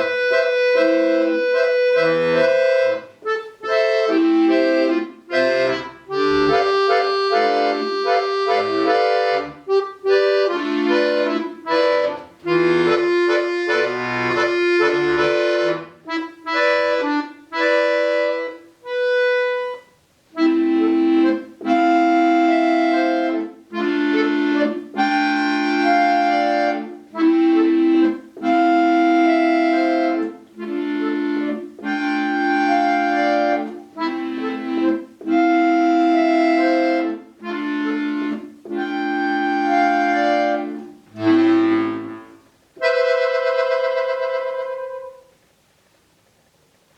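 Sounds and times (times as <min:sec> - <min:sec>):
solo accordion playing: 0:00.0 - 0:45.4.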